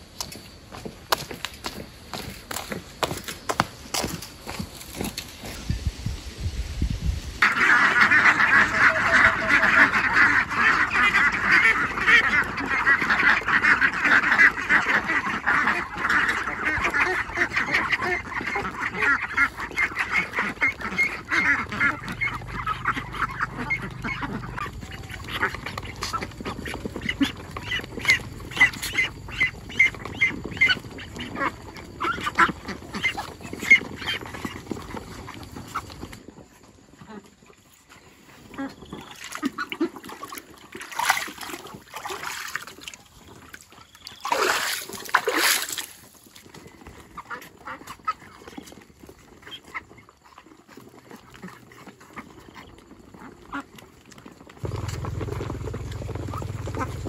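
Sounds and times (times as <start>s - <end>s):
ducks quacking: 7.4s - 36.2s, 36.9s - 45.6s, 46.4s - 57.0s.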